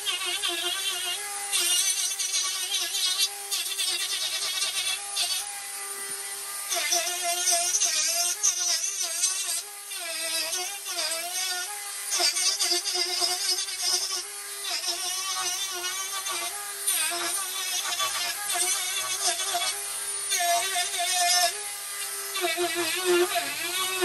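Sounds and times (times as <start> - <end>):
rotary tool cutting wood: 0.0 - 24.0.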